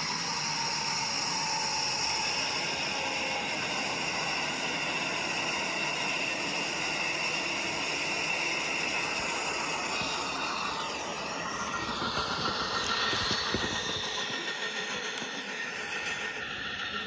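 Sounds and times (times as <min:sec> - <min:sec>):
high whining tones: 0:00.0 - 0:17.0
train passing on tracks: 0:00.0 - 0:17.0.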